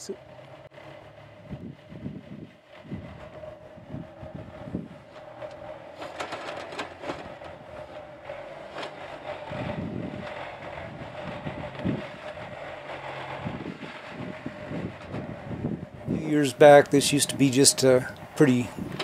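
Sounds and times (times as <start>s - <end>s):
excavator diesel engine running: 0.0s - 19.0s
excavator whine: 0.0s - 19.0s.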